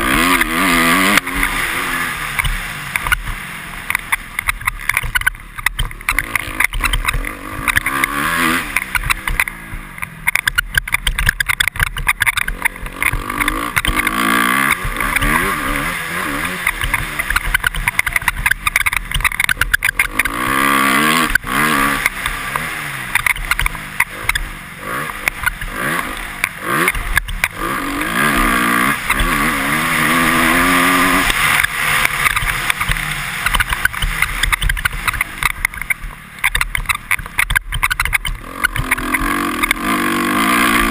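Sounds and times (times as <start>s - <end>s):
knocks and clicks over bumps: 0.0s - 40.9s
motocross engine revving: 0.0s - 40.9s.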